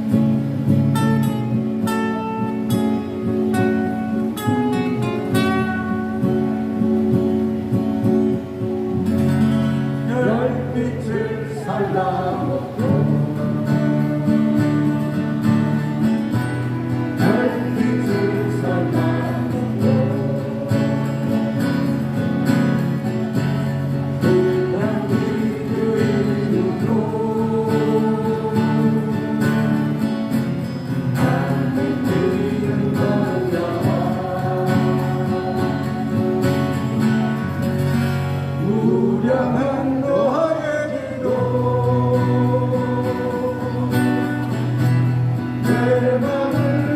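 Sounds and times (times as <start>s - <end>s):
acoustic guitars playing: 0.0s - 46.9s
voices singing: 1.6s - 46.9s.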